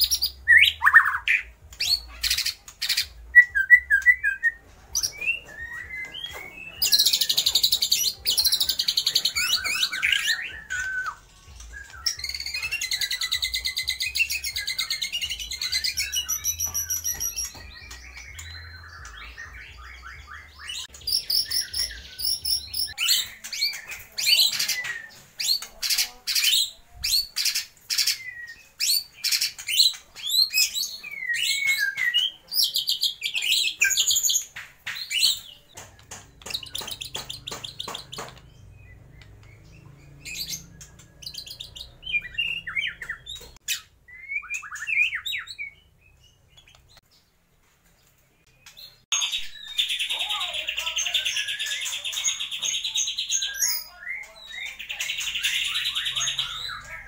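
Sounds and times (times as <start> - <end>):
bird singing chattering trills: 0.0 - 34.5, 36.3 - 47.0, 48.4 - 57.0.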